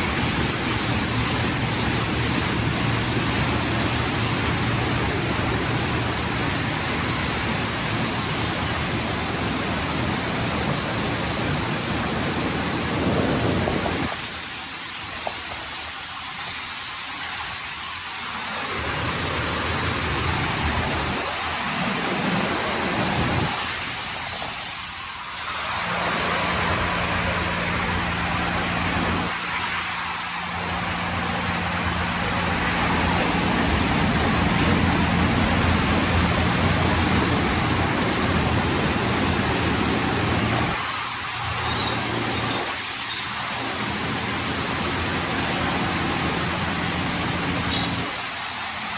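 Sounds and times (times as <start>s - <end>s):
car wash water spray and brushes: 0.0s - 48.9s.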